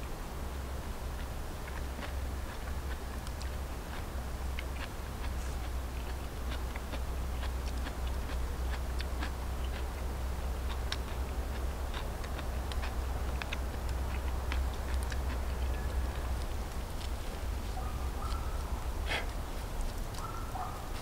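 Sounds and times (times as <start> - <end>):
chewing: 1.2 - 21.0.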